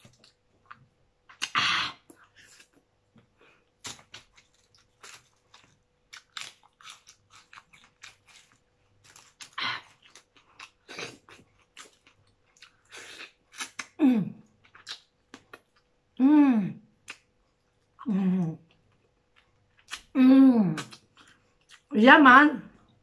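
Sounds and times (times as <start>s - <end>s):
wet chewing and crunching: 0.0s - 16.1s, 17.0s - 21.9s.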